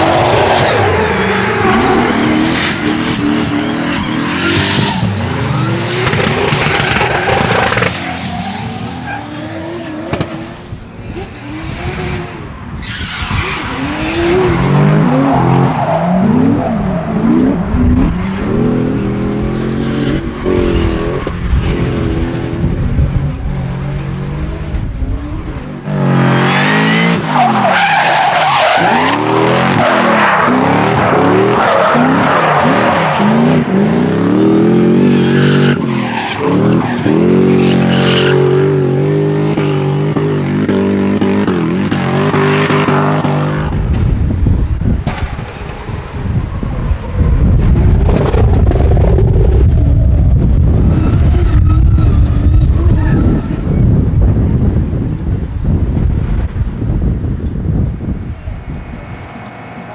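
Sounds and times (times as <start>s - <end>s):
car engines revving hard: 0.0s - 59.9s.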